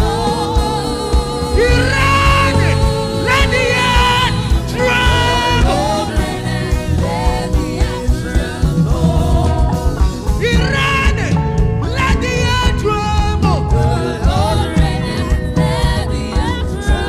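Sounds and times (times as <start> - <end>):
gospel band with steady beat: 0.0 - 17.0
person singing with vibrato: 0.0 - 17.0.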